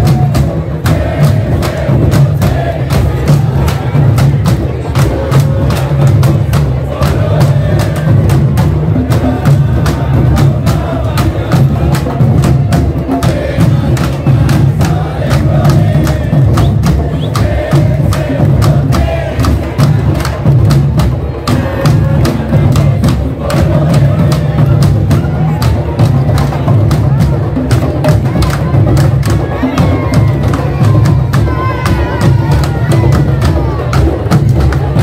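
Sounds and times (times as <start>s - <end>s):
deep hand drums: 0.0s - 35.0s.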